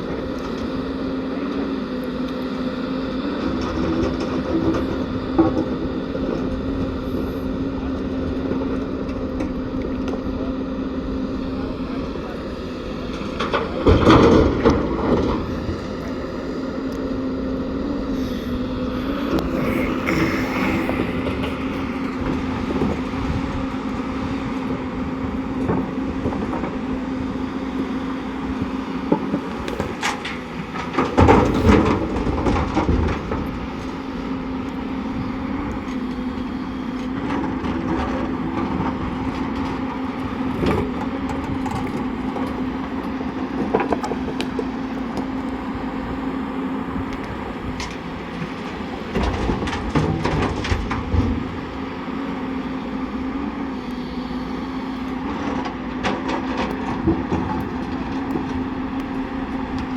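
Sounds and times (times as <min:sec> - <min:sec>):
heavy diesel machinery drone: 0:00.0 - 0:59.9.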